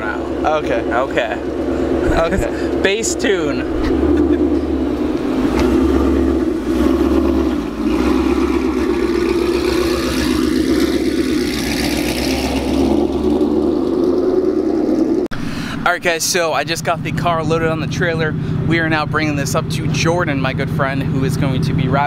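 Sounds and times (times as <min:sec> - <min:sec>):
car engine running: 0:00.0 - 0:22.0
supercharger whine: 0:00.0 - 0:22.0.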